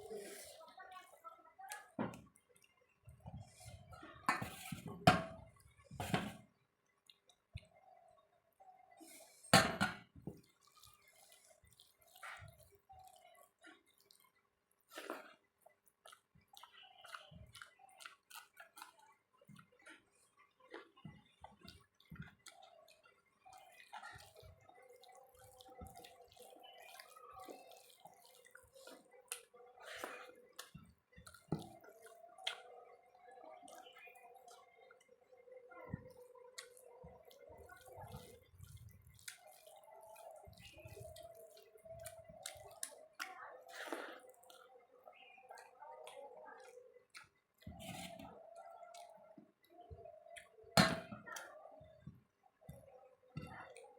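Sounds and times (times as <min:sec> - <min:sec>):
wet chewing and mixing food: 0:00.0 - 0:53.9.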